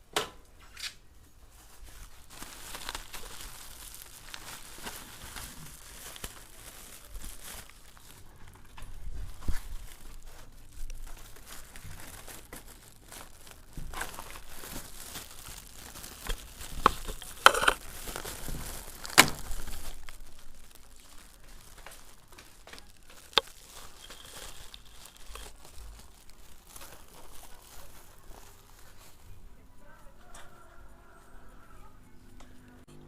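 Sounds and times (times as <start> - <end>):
plastic packaging crinkling: 1.3 - 29.5.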